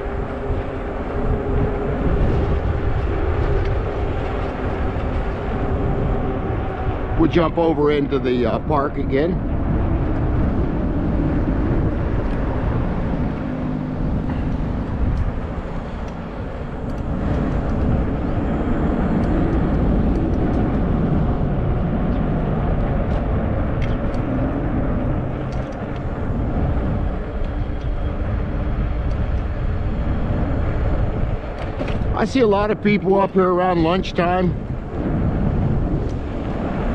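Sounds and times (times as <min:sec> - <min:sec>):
bike tyres rolling: 0:00.0 - 0:08.1, 0:09.1 - 0:36.9
wind rumble: 0:00.0 - 0:36.9.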